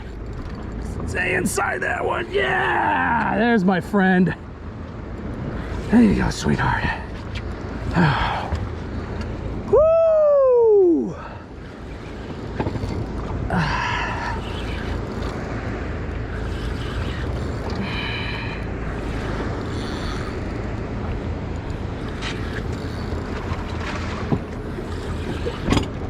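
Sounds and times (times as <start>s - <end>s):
water washing around boat: 0.0s - 26.0s.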